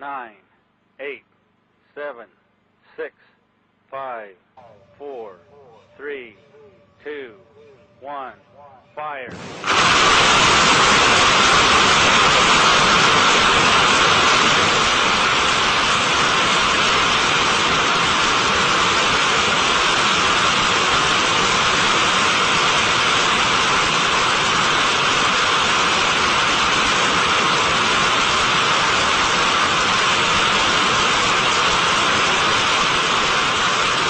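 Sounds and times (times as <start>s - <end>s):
rocket motor roaring: 4.8s - 34.0s.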